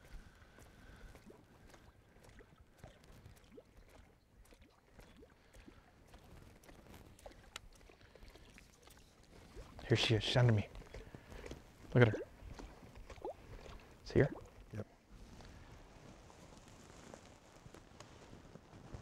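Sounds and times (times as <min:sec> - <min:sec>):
faint water sounds: 0:00.0 - 0:17.8.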